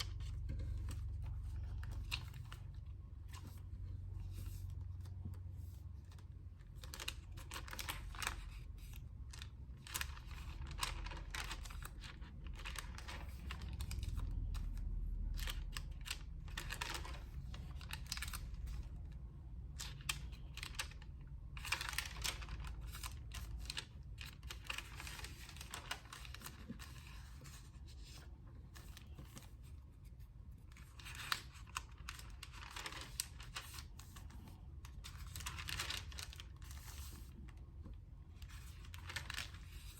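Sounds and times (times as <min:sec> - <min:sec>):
low steady hum: 0:00.0 - 0:39.9
thin paper pages rustling: 0:00.0 - 0:39.9.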